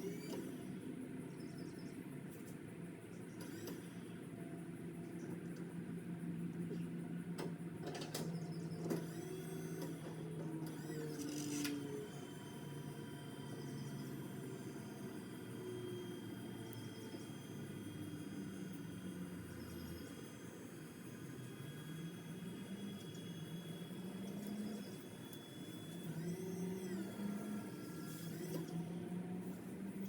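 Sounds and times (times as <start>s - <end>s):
small electric motor humming: 0.0s - 2.1s, 3.1s - 30.0s.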